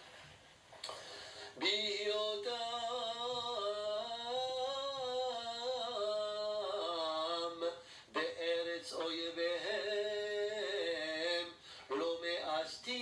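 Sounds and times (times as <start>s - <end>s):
man chanting: 1.6s - 13.0s.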